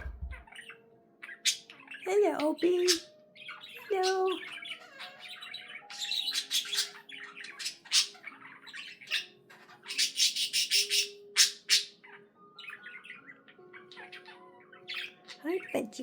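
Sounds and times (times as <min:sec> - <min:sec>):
budgerigar chirping and squawking: 0:00.0 - 0:16.0.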